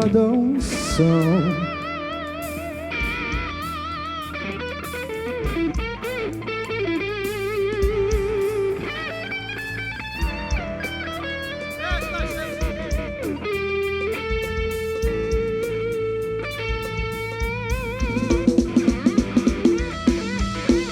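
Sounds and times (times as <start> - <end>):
electric guitar lead: 0.0 - 20.9
live band playing: 0.0 - 20.9.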